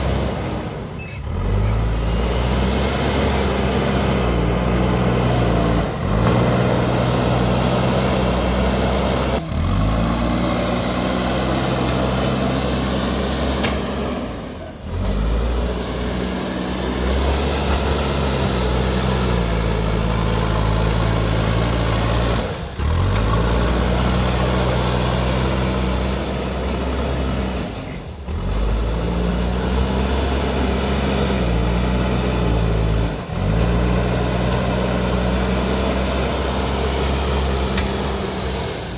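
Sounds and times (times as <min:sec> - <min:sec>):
backhoe diesel engine under load: 0:00.0 - 0:38.9.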